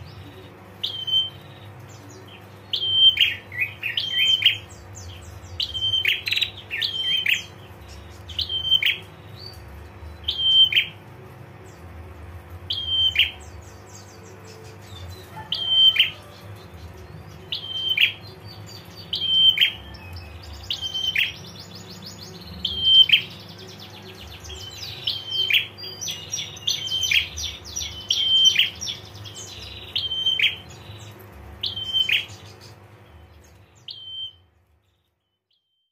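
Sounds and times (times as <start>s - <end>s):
bird chattering trills: 0.0s - 34.4s
faint steady hum: 0.0s - 35.3s.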